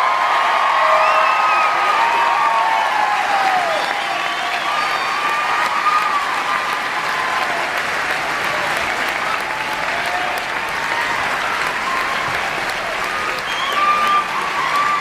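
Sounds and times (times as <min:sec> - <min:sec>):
crowd clapping: 0:00.0 - 0:15.0.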